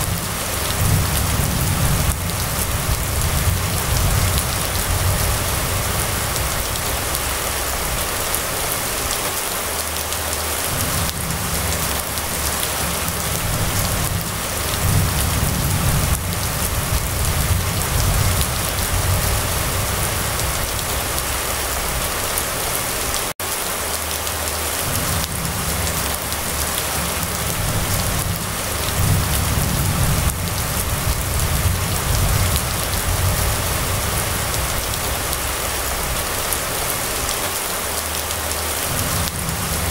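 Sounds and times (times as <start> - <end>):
low rumble: 0.0 - 9.1, 10.0 - 23.1, 24.6 - 37.4, 38.2 - 39.9
rain on street and roofs: 0.0 - 39.9.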